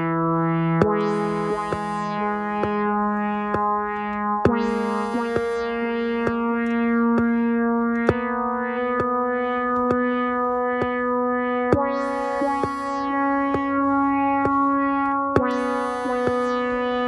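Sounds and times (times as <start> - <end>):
sustained synthesizer chords: 0.0 - 17.0.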